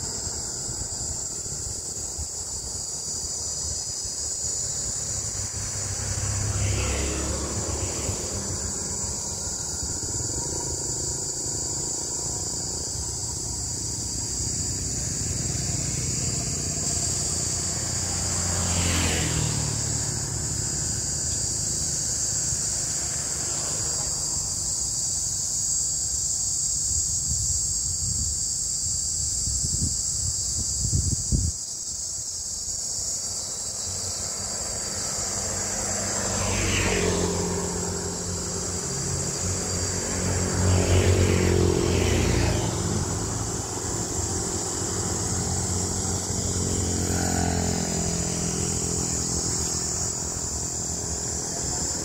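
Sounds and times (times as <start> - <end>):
vehicles driving past: 0.0 - 26.5, 32.0 - 52.0
cicadas buzzing: 0.0 - 52.0.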